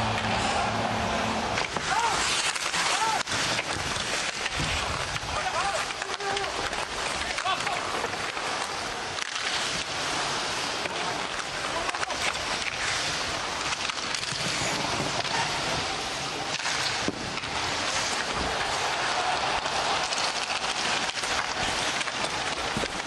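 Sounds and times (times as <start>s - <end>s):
crowd hum: 0.0s - 23.0s
clicks and scrapes on ice: 1.6s - 23.0s.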